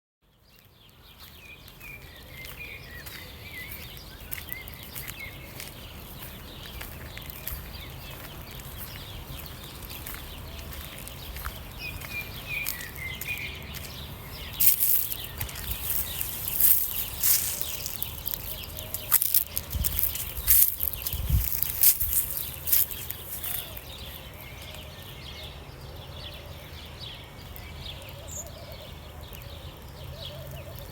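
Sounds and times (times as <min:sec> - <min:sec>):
birds chirping: 0:00.4 - 0:30.9.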